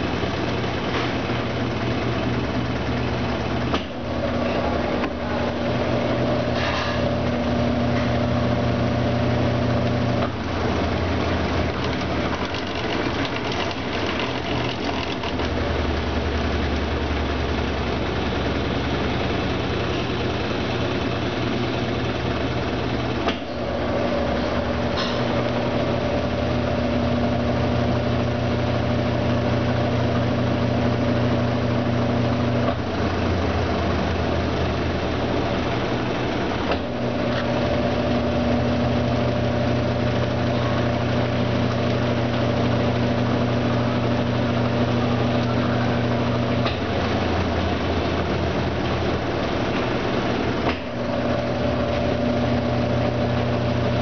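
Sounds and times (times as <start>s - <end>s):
washing machine low hum: 0.0s - 54.0s
washing machine motor whine: 0.0s - 54.0s.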